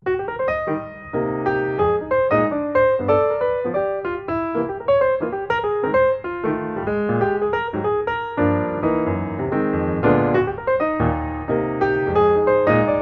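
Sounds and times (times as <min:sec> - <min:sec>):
piano playing quick run: 0:00.0 - 0:13.0.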